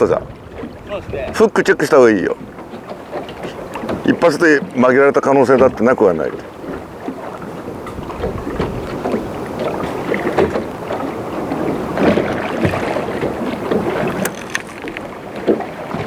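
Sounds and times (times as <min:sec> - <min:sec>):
water lapping against boat hull: 0:00.0 - 0:16.0
wind buffeting microphone: 0:00.0 - 0:16.0.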